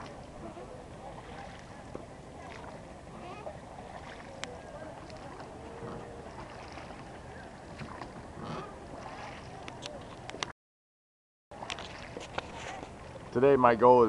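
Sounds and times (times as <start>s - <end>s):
water washing: 0.0s - 10.5s, 11.5s - 13.9s.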